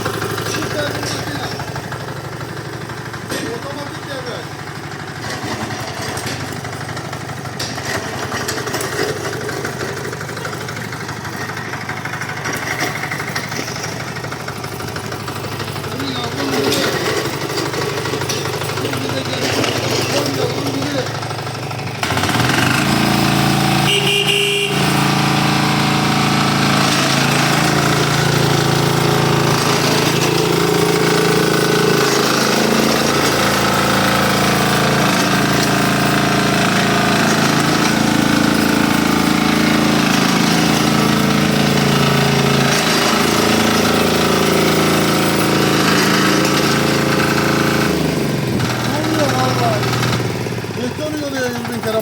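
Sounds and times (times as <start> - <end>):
diesel tiller engine knocking: 0.0 - 52.0.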